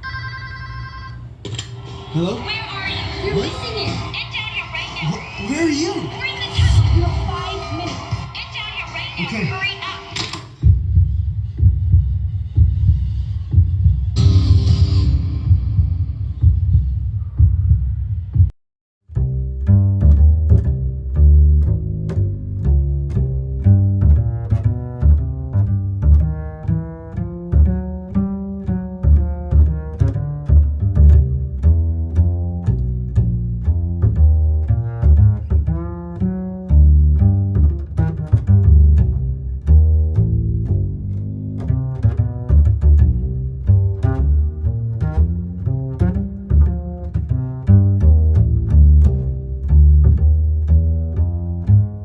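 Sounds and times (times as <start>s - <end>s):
instrumental music with heavy bass: 5.2s - 18.5s, 19.1s - 52.0s.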